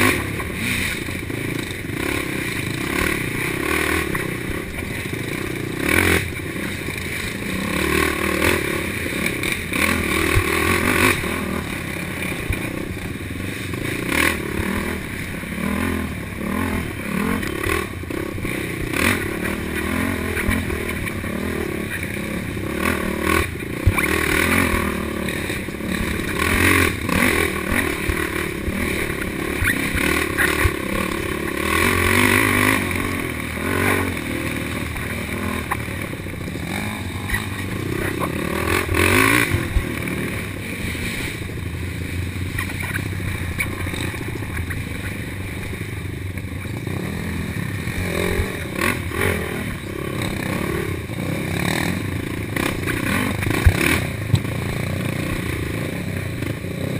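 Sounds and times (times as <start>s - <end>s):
atv engine revving: 0.0s - 56.9s
quad rattling over bumps: 0.0s - 56.9s.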